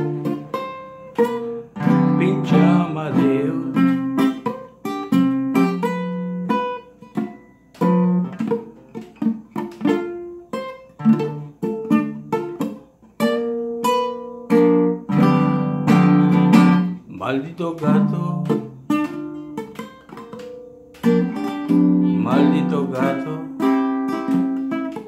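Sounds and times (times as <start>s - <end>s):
classical guitar playing: 0.0s - 25.0s.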